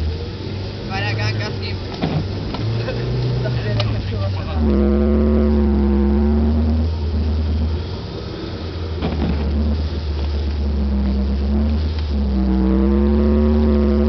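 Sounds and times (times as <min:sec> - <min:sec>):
car engine running at low revs: 0:00.0 - 0:14.0.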